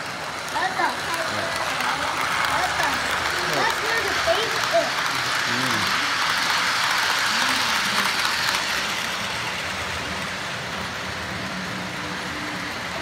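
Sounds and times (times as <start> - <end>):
model train wheels clattering: 0.0 - 13.0.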